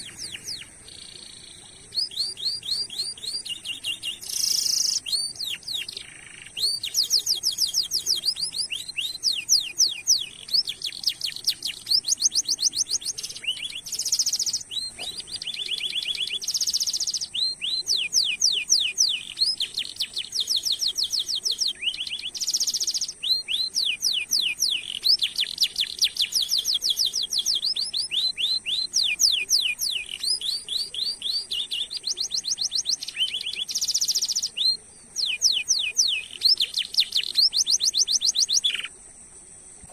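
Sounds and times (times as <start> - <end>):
canary singing: 0.0 - 39.0.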